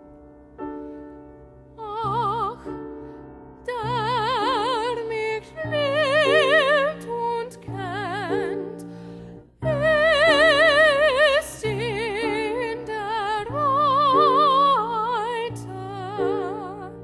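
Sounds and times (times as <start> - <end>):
woman singing operatic art song: 1.8 - 2.9, 3.6 - 8.9, 9.6 - 17.0.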